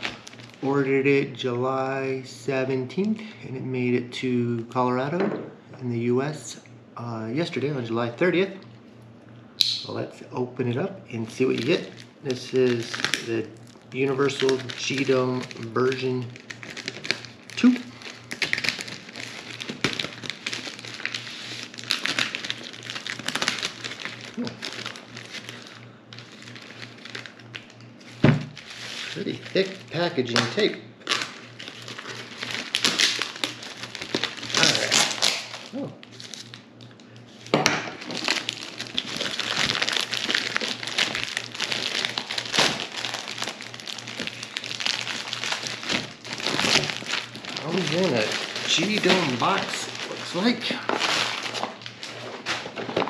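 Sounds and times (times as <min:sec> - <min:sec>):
plastic wrapping crinkling: 0:00.0 - 0:01.2, 0:11.3 - 0:53.0.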